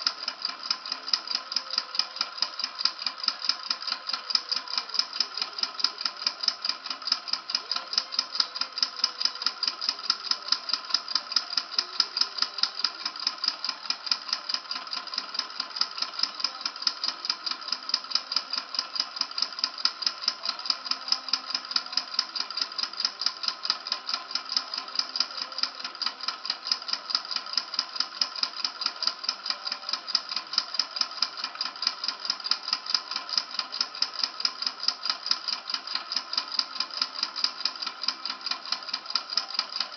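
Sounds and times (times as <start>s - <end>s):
model engine clicking: 0.0s - 39.9s.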